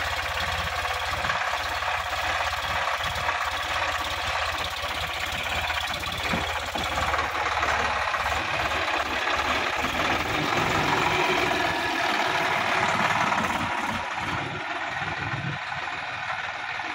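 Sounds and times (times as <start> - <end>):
tractor diesel engine passing: 0.0 - 16.9.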